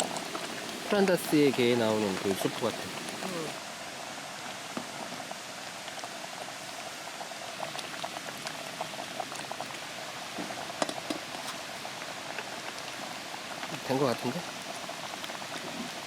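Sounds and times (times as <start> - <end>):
camp burner hiss: 0.0 - 16.0
stew bubbling and popping: 0.0 - 16.0.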